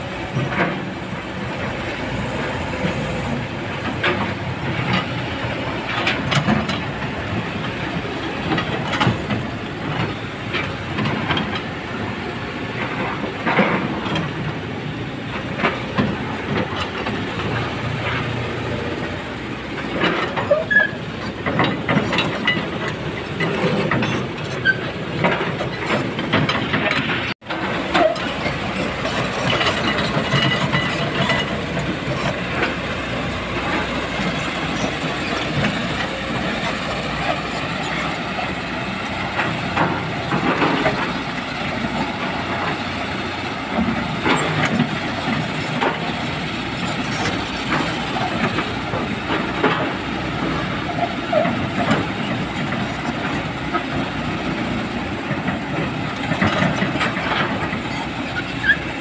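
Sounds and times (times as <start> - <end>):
crawler tracks clanking: 0.0 - 59.0
excavator diesel engine: 0.0 - 59.0.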